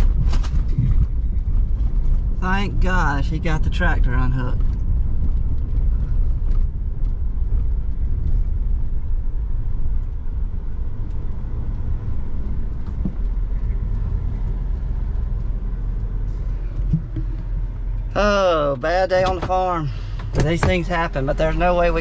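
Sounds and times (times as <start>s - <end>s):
truck engine and tyre rumble: 0.0s - 22.0s.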